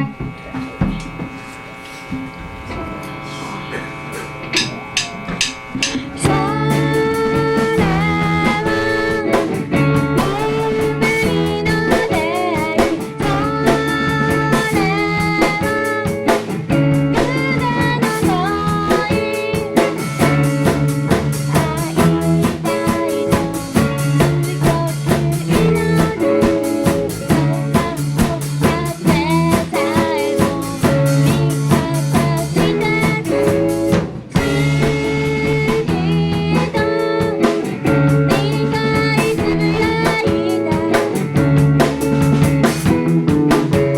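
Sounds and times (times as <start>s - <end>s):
band playing guitar and drums: 0.0s - 43.9s
woman singing: 5.9s - 41.9s.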